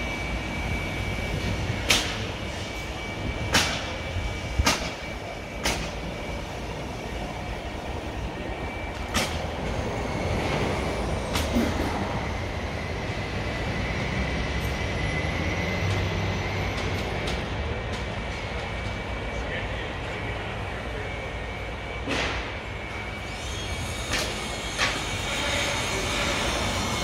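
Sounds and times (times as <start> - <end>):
low machine noise with whine: 0.0 - 27.0.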